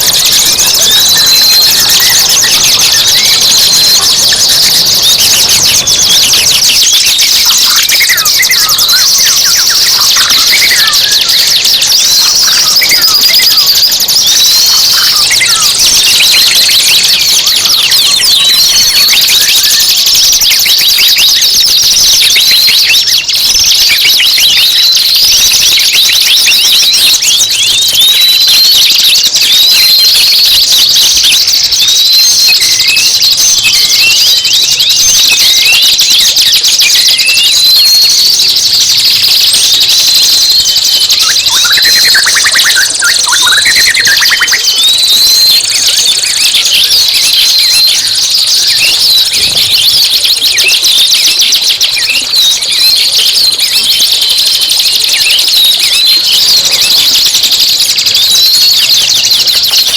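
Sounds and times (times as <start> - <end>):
songbird song: 0.0 - 59.9.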